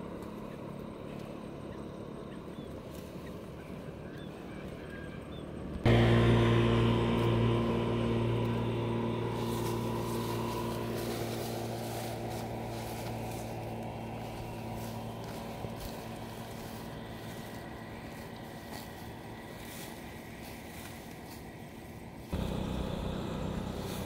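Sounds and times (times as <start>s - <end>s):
motor engine running: 0.0s - 24.0s.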